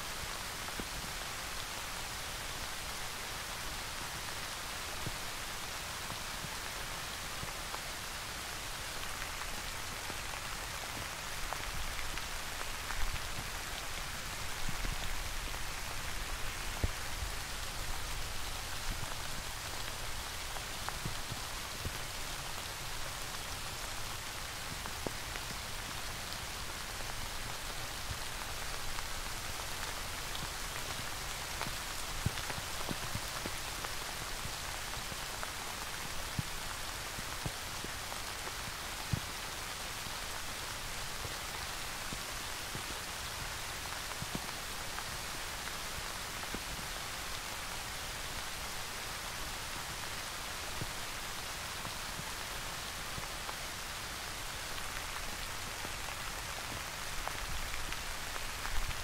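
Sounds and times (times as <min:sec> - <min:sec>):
steady rain: 0:00.0 - 0:59.0
raindrops ticking close by: 0:00.2 - 0:59.0.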